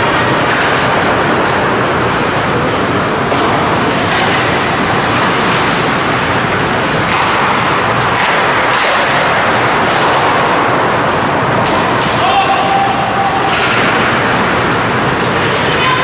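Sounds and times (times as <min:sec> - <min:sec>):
ice rink rushing noise: 0:00.0 - 0:16.0.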